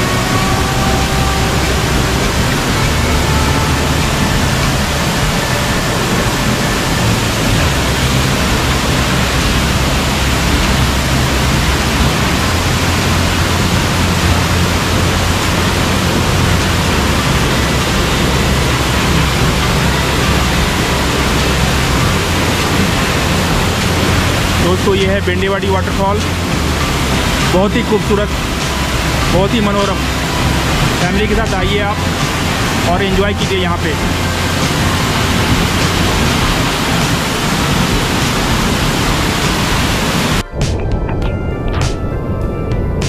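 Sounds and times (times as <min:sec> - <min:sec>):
waterfall roaring: 0:00.0 - 0:43.0.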